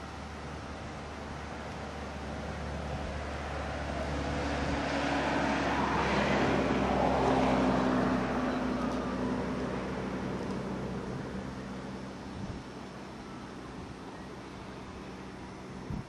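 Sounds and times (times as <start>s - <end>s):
road vehicle passing: 0.0s - 15.9s.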